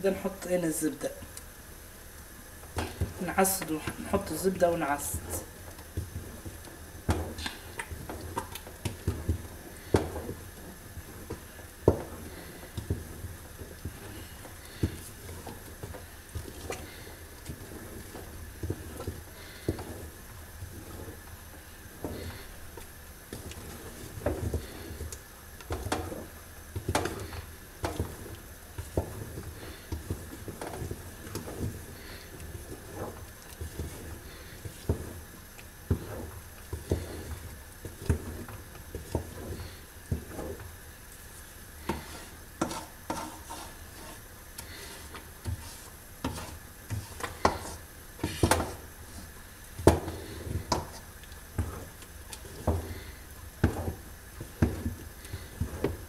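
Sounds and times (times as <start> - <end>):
wooden spoon scraping a pot: 2.6 - 56.0.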